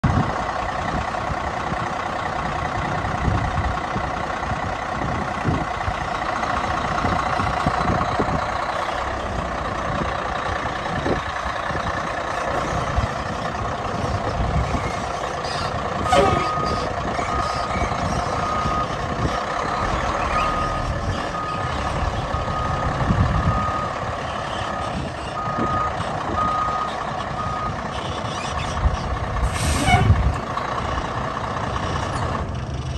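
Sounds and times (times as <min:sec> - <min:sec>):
heavy truck engine running: 0:00.0 - 0:32.9.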